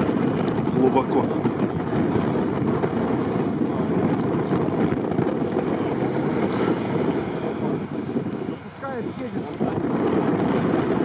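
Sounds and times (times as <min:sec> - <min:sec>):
blizzard wind on microphone: 0:00.0 - 0:11.0
off-road vehicle engine in snow: 0:00.0 - 0:11.0.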